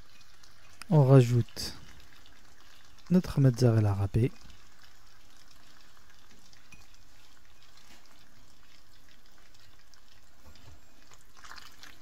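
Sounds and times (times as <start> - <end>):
sauce sizzling in a pan: 0.0 - 12.0.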